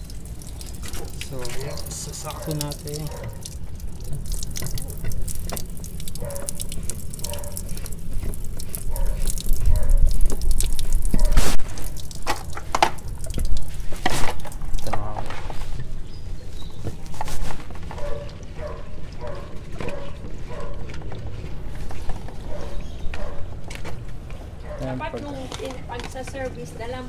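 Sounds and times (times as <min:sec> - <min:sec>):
water dripping and splashing: 0:00.0 - 0:27.0.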